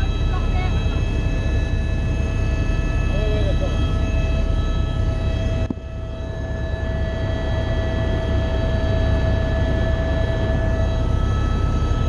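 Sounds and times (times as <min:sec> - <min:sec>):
small aircraft engine rumble: 0:00.0 - 0:12.0.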